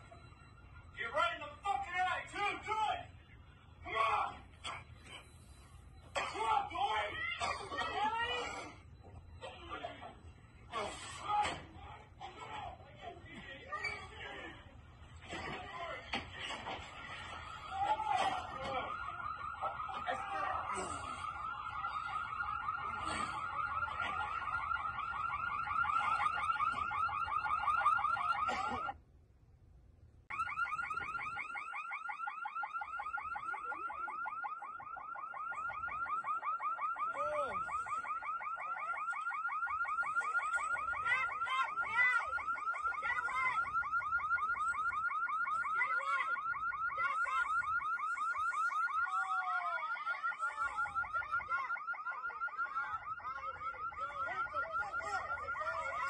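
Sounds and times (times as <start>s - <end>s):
electronic alarm pulsing: 0.0s - 13.0s, 13.6s - 29.0s, 30.3s - 56.0s.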